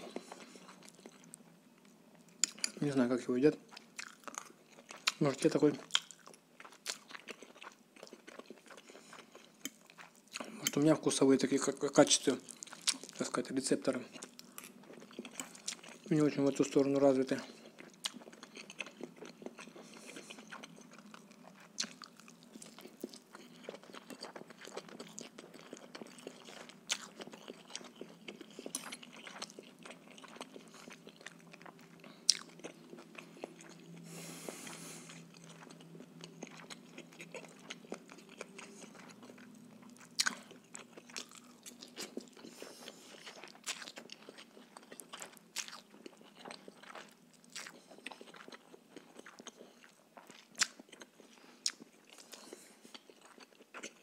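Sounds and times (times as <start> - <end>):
man chewing: 0.0 - 1.4, 3.7 - 5.2, 5.9 - 10.7, 12.4 - 13.2, 14.1 - 16.1, 17.5 - 54.0.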